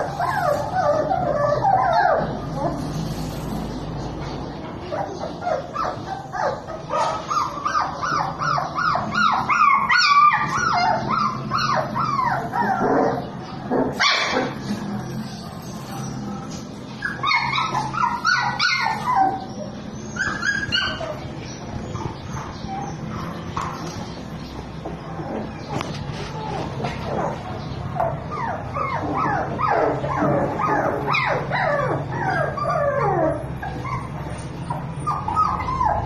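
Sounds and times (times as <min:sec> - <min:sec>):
puppies whining and yipping: 0:00.0 - 0:04.2, 0:04.8 - 0:36.0.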